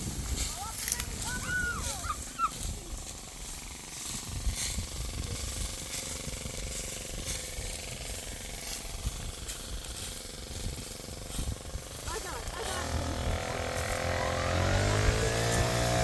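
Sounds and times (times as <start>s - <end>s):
steady low rumble: 0.0s - 16.0s
wheat stalks cut by hand: 0.0s - 16.0s.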